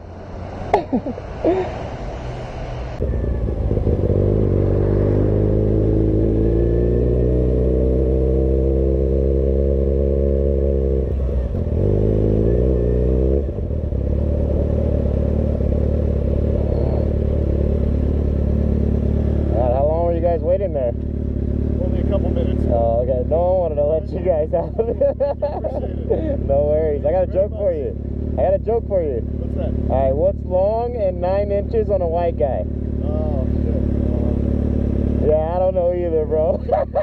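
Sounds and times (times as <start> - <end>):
motorcycle engine running: 3.0 - 37.0.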